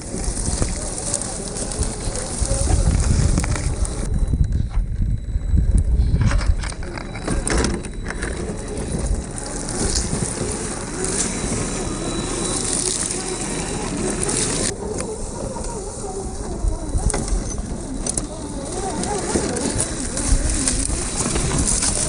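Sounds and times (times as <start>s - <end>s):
tyres crunching on gravel: 0.0s - 4.1s, 6.2s - 22.0s
electric motor whine: 0.0s - 22.0s
wind on microphone: 0.0s - 22.0s.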